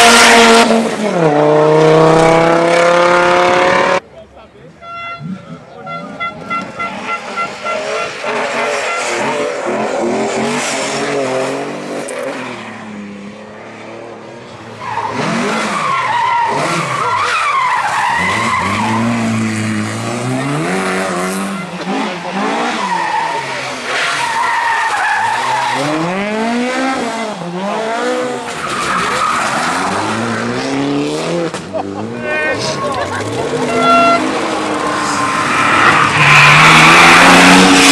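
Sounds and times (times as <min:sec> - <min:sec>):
rally car engines revving: 0:00.0 - 0:04.1, 0:04.9 - 0:37.9.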